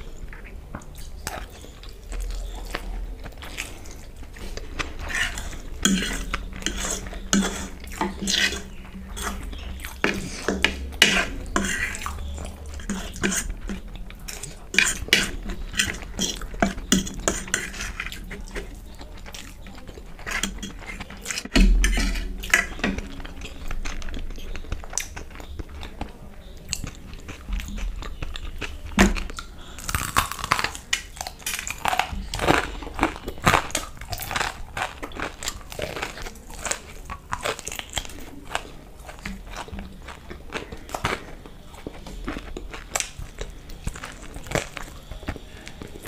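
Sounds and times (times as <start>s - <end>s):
biting and chewing food: 0.0s - 46.0s.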